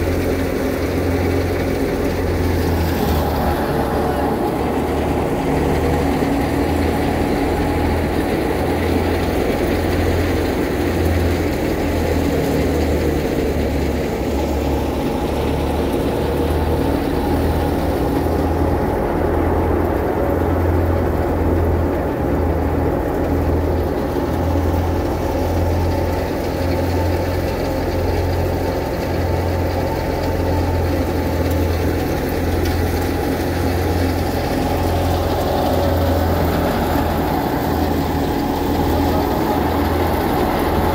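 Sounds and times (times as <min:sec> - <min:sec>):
thresher engine droning: 0:00.0 - 0:40.9.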